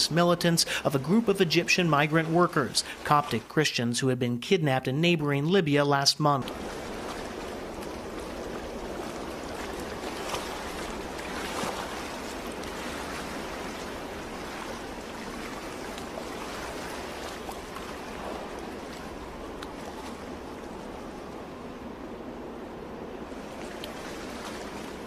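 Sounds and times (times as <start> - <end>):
waves washing onto sand: 0.0 - 4.0, 6.3 - 25.0.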